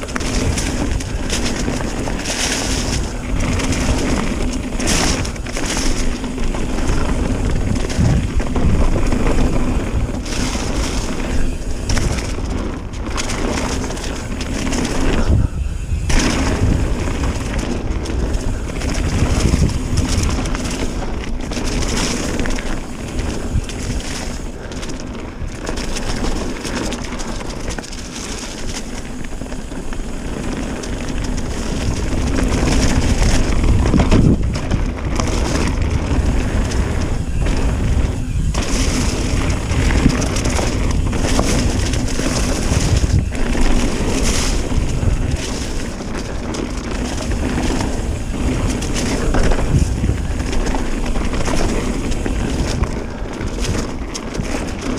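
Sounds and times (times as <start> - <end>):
bike rattling over rocks: 0.0 - 54.9
tyre rumble: 0.0 - 54.9
wind buffeting microphone: 0.0 - 54.9.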